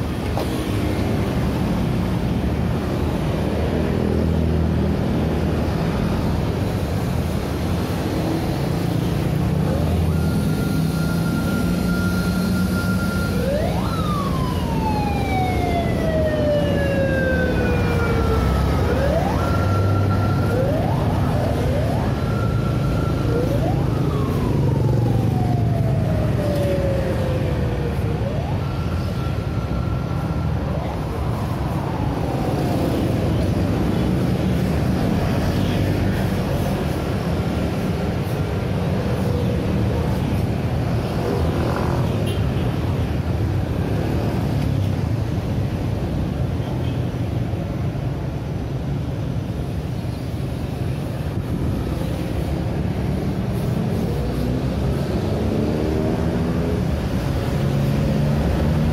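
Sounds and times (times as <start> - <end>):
motorcycles and cars passing: 0.0 - 58.9
wailing siren: 0.1 - 46.4, 47.9 - 58.9.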